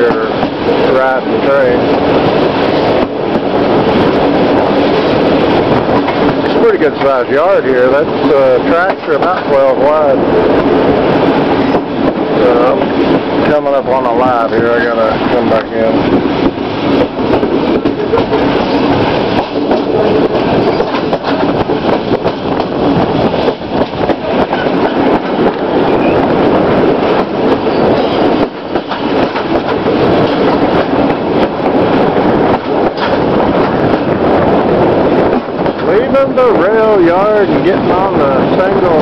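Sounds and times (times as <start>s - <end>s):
rail clacks: 0.0s - 39.0s
train wheels rumbling on rails: 0.0s - 39.0s.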